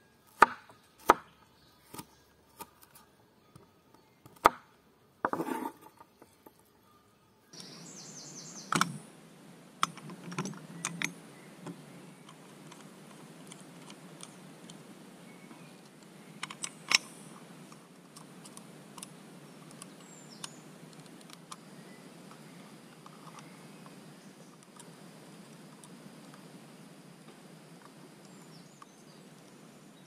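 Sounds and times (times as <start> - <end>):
bird chirping: 0.0 - 4.5, 5.4 - 9.1, 9.8 - 17.8, 18.4 - 24.9, 27.9 - 30.0.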